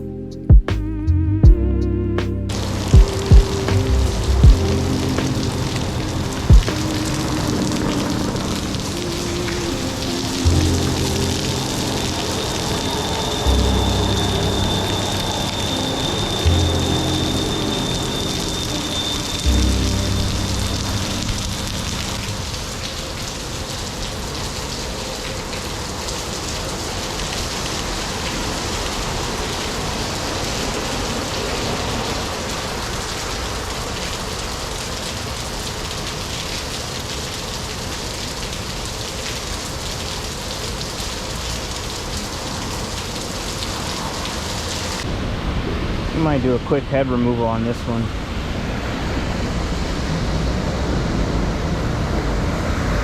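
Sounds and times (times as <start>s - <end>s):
steady rain falling: 2.4s - 53.0s.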